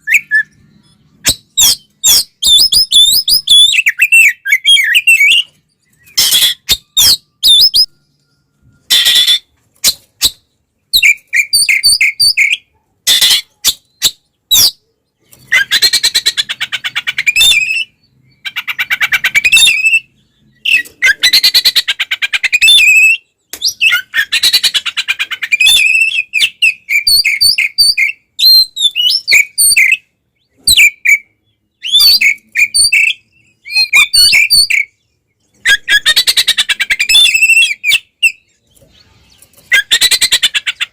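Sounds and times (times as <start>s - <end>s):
bird whistles and squawks: 0.0s - 35.0s, 35.6s - 40.9s.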